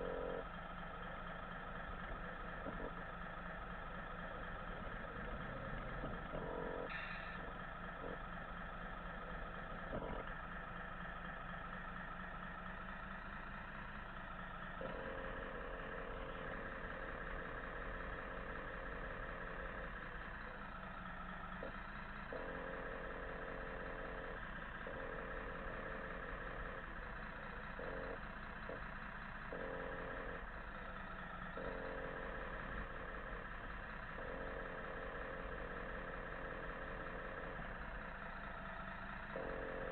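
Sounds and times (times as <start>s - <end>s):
model truck motor hum: 0.0s - 39.9s
motor whine: 0.0s - 39.9s.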